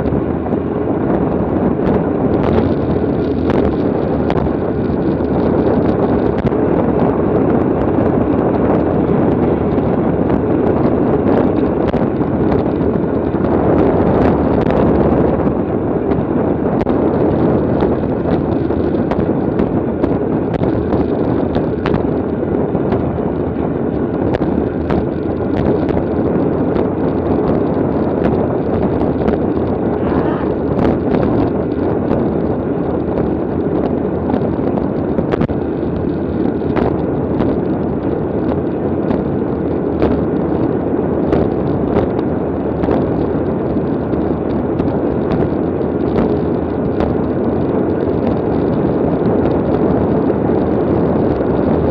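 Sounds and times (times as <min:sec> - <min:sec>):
wind rushing on microphone: 0:00.0 - 0:51.9.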